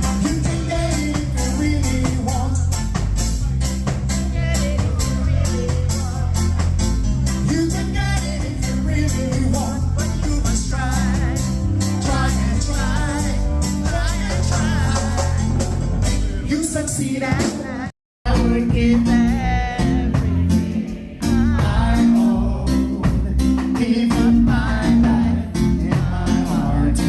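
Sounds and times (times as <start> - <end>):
heavy bass line: 0.0 - 27.0
reggae song with singing: 0.0 - 27.0.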